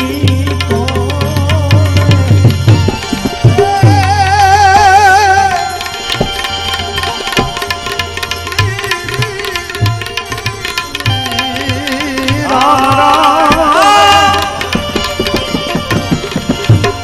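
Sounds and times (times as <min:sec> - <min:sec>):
person singing: 0:00.0 - 0:02.8, 0:03.4 - 0:07.1, 0:08.5 - 0:17.0
steady accompanying tones: 0:00.0 - 0:17.0
tabla rhythm: 0:00.0 - 0:17.0.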